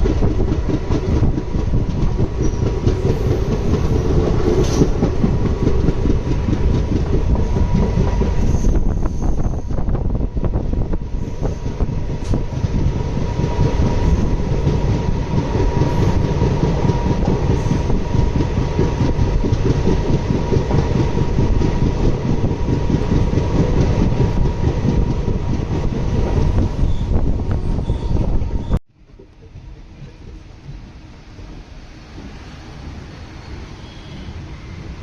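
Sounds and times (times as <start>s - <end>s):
train coaches rumbling: 0.0s - 35.0s.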